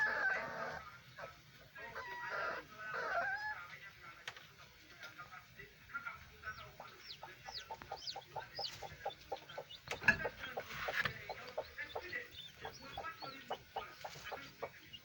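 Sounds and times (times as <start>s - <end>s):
hen clucking: 0.0s - 3.9s, 6.0s - 15.0s
chicks peeping: 0.0s - 15.0s.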